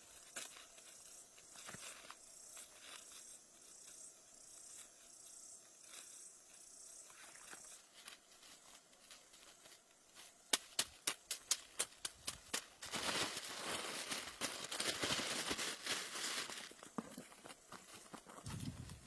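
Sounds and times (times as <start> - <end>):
rustling and handling noises: 0.0 - 19.0.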